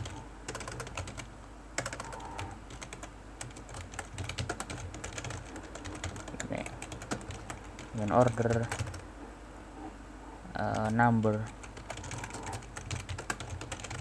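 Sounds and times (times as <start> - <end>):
typing on computer keyboard: 0.0 - 9.0, 10.8 - 14.0.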